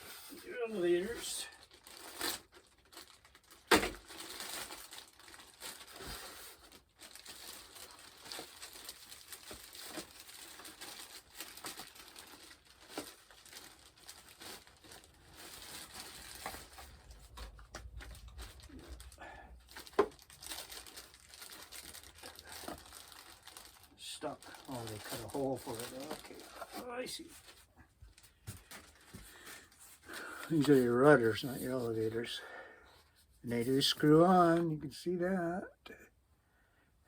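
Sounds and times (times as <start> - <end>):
plastic packaging crinkling: 0.0 - 32.3.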